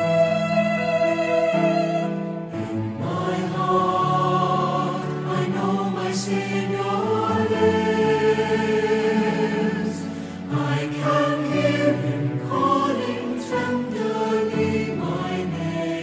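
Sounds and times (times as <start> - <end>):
slow song with singing voices: 0.0 - 16.0.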